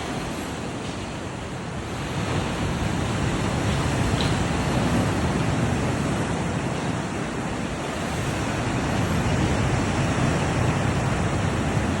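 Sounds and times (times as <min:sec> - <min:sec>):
waves washing onto shore: 0:00.0 - 0:12.0
wind noise on microphone: 0:00.0 - 0:12.0.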